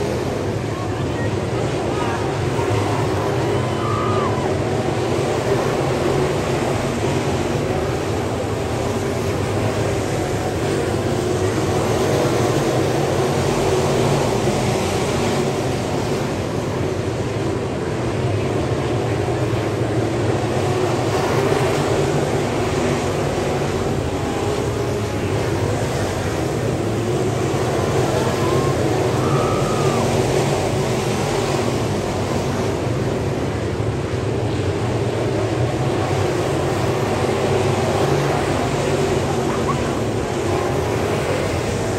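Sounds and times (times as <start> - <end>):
race car engines droning: 0.0 - 41.9.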